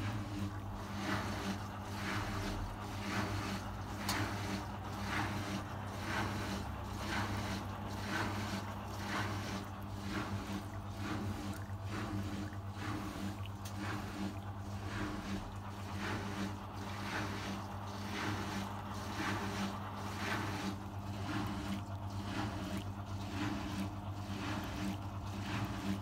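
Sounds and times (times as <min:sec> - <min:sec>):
washing machine motor hum: 0:00.0 - 0:26.0
water sloshing in drum: 0:00.0 - 0:26.0.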